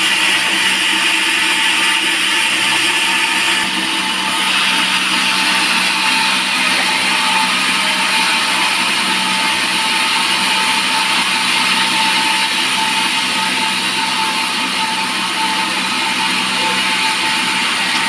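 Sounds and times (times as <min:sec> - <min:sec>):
band sawmill cutting log: 0:00.0 - 0:18.0.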